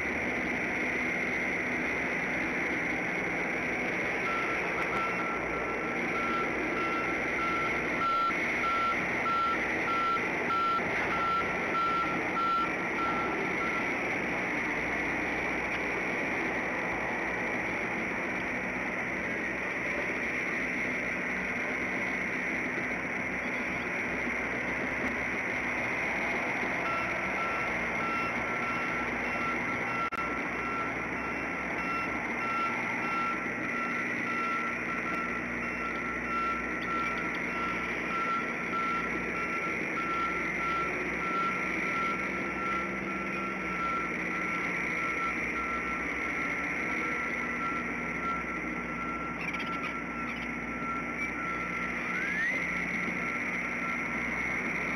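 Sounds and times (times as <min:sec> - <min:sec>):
vehicle backup alarm beeps: 0:00.0 - 0:54.9.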